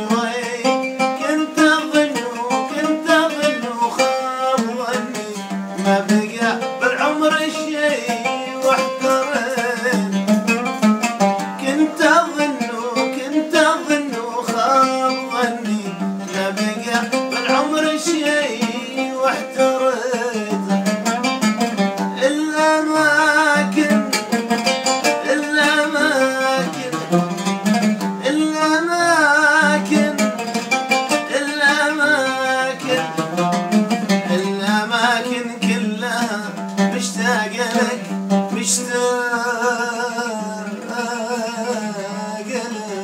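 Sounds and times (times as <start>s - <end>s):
man singing: 0.0s - 43.0s
oud plucked and strummed: 0.0s - 43.0s.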